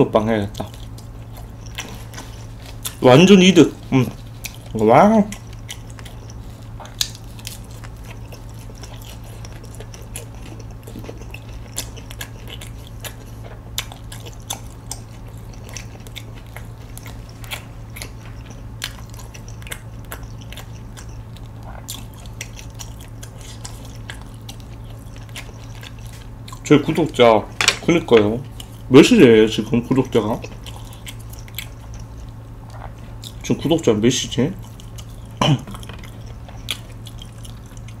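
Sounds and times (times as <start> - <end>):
steady low hum: 0.0 - 38.0
person chewing: 0.4 - 38.0.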